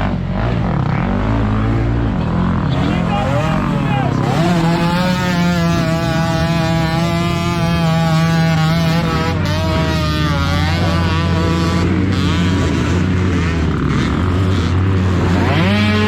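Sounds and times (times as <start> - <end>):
motocross engines revving: 0.0 - 16.0.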